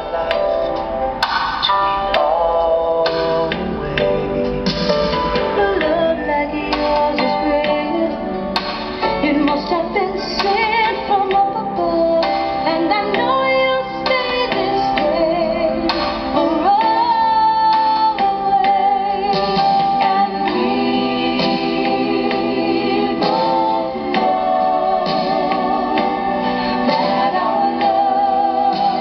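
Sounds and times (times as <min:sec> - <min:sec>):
pop song with female vocals: 0:00.0 - 0:29.0.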